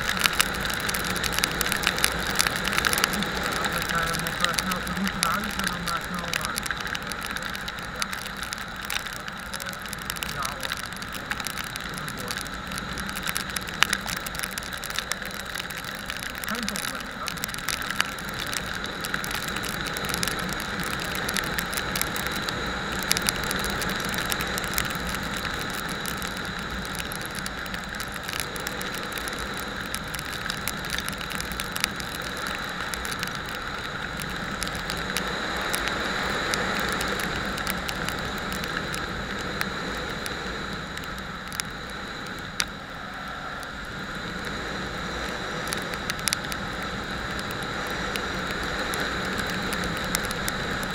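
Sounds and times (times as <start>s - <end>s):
small clicks: 0.0s - 42.8s, 45.6s - 50.9s
wind rush of moving motorcycle: 0.0s - 50.9s.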